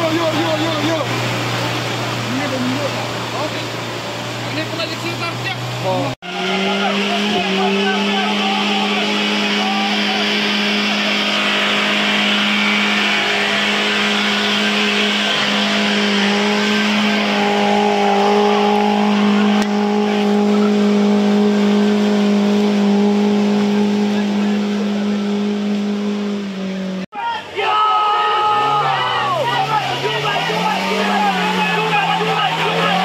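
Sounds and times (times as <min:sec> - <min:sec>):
engine droning at high revs: 0:00.0 - 0:27.1, 0:28.4 - 0:33.0.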